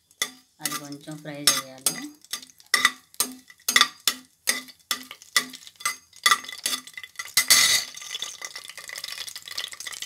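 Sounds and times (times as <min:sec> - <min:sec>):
metal spatula scraping pot: 0:00.0 - 0:08.7
spices frying in oil: 0:00.0 - 0:10.0.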